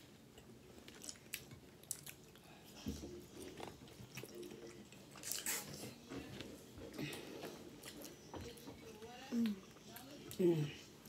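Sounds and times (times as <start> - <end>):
chewing food: 0.2 - 11.0.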